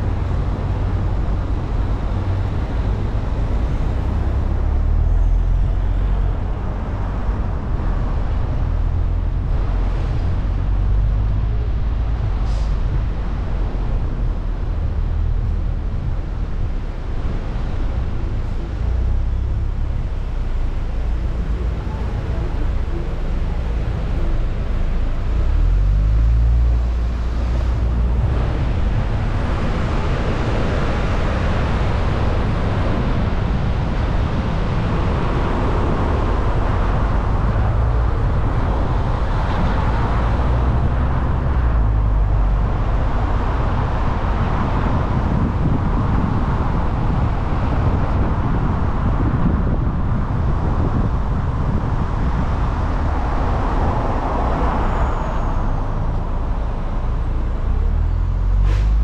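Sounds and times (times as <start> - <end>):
car engine and road rumble: 0.0 - 59.0
tyre and wind noise: 0.0 - 59.0.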